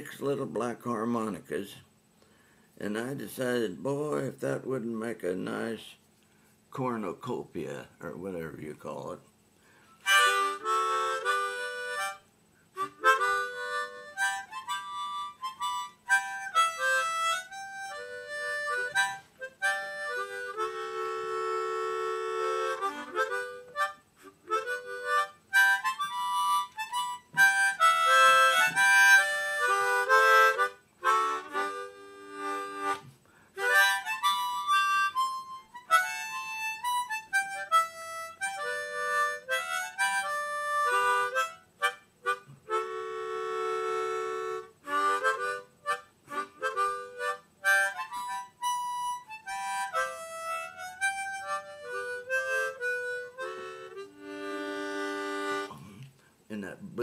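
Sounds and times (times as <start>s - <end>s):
harmonicas playing a tune: 10.0s - 56.0s.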